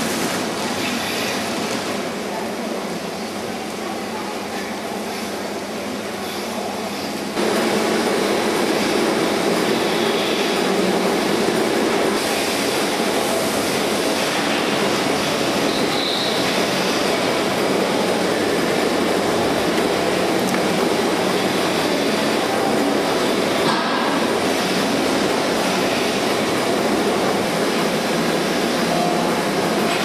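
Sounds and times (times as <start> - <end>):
milking machinery running: 0.0 - 30.0.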